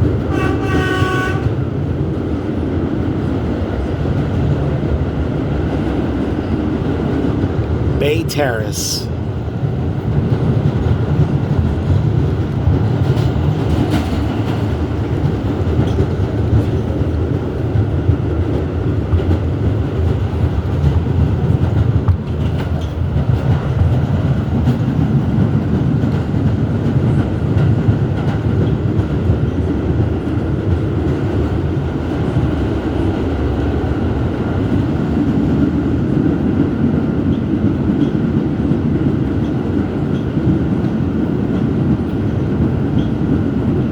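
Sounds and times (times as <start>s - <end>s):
subway wheels rumbling on rail: 0.0s - 7.9s, 9.1s - 43.9s.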